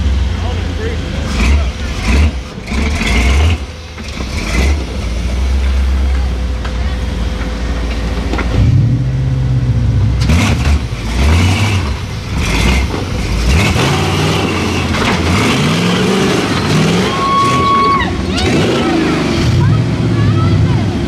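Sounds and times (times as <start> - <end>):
engine revving: 0.0 - 6.4, 7.6 - 21.0.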